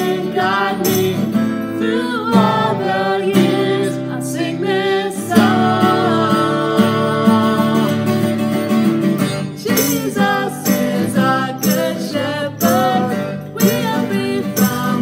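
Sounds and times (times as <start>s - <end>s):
man singing: 0.0s - 1.3s, 2.0s - 8.2s, 9.7s - 15.0s
woman singing: 0.0s - 8.3s, 9.5s - 15.0s
strummed acoustic guitar: 0.0s - 15.0s.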